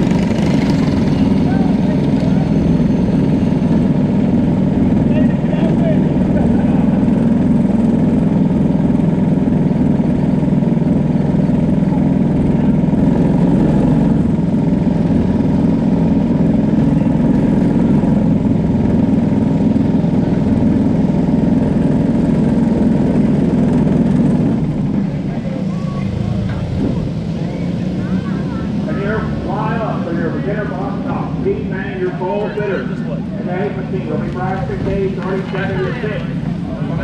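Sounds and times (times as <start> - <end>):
kart engine idling: 0.0 - 37.0.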